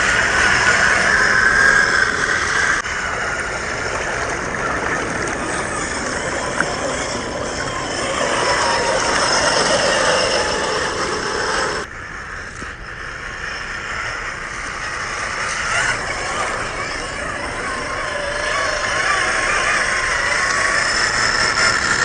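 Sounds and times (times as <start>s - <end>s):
rc car motor whining: 0.0s - 22.0s.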